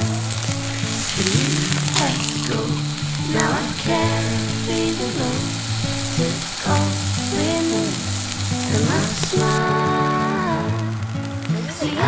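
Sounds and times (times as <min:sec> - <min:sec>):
steak sizzling on griddle: 0:00.0 - 0:12.0.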